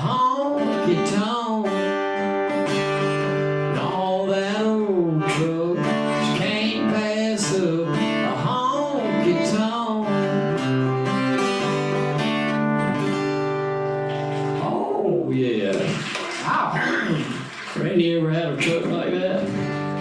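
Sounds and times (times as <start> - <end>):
acoustic country music: 0.0 - 20.0
acoustic guitar: 0.0 - 20.0.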